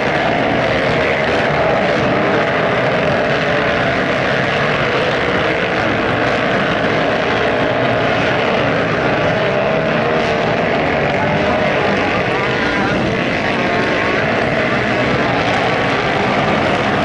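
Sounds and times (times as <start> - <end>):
motocross bike engines droning: 0.0 - 17.0.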